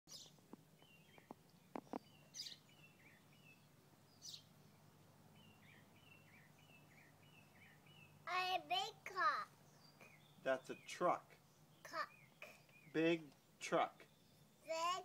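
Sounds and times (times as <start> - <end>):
faint birdsong chirps: 0.1 - 15.0.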